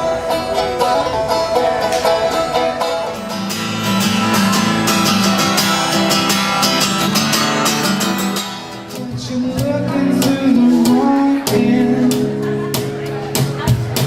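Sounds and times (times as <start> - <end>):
low bass line: 0.0 - 13.8
plucked strings pattern: 0.0 - 14.0
steady beat: 1.8 - 14.0.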